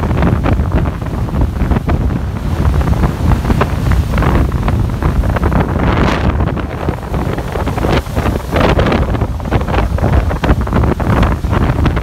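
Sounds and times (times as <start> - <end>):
strong wind buffeting microphone: 0.0 - 12.0
waves breaking on rocks: 0.0 - 12.0.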